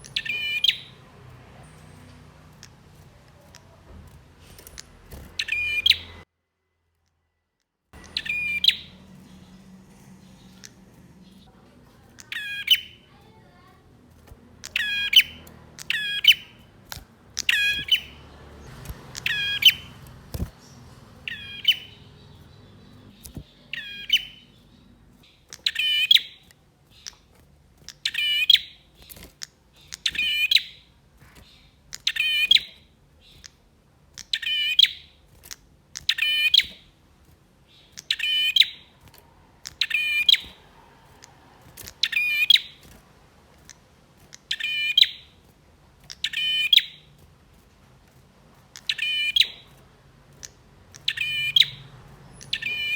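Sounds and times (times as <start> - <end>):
bird singing sharp chirps: 0.0 - 3.8, 4.4 - 6.2, 8.0 - 11.5, 12.1 - 27.2, 27.9 - 33.5, 34.2 - 35.2, 36.0 - 36.8, 37.7 - 42.9, 43.6 - 45.4, 46.0 - 47.2, 48.8 - 52.9.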